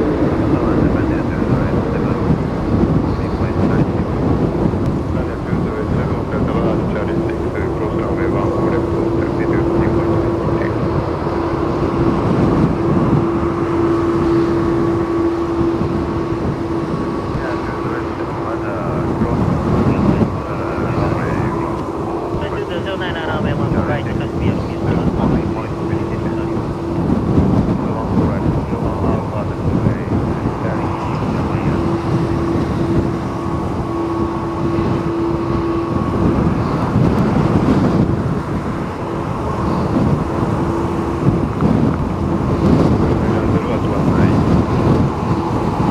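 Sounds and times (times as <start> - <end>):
steady droning tone: 0.0 - 45.9
steady low hum: 0.0 - 45.9
strong wind buffeting microphone: 0.0 - 45.9.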